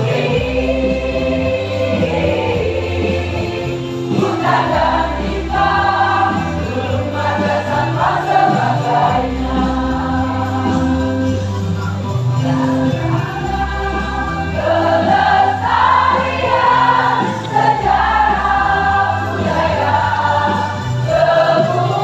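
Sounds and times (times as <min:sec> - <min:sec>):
large choir singing: 0:00.0 - 0:11.5, 0:12.4 - 0:22.0
musical accompaniment with bass: 0:00.0 - 0:22.0.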